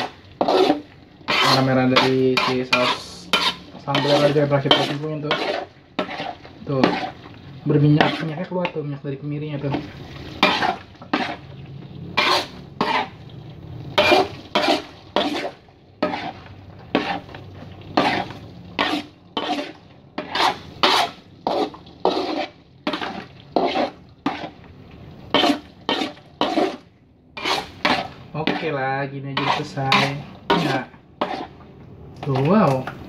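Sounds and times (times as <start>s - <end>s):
spatula scraping metal wok: 0.0s - 33.0s.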